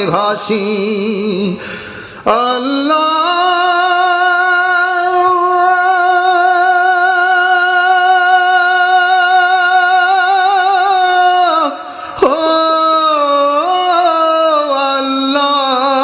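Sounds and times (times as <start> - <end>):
man singing long high note: 2.2 - 16.0.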